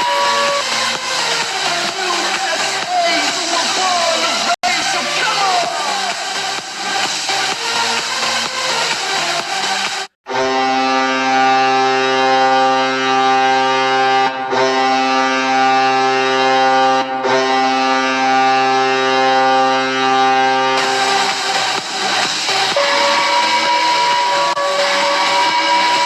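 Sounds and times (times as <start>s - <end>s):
goal horn blowing chord: 0.0s - 7.9s, 10.3s - 26.0s.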